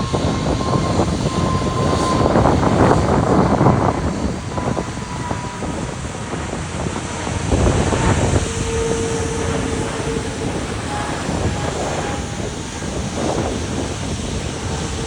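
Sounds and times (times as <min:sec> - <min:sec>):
jet engines rumbling: 0:00.0 - 0:15.0
steady whine: 0:00.0 - 0:15.0
wind buffeting microphone: 0:00.0 - 0:15.0.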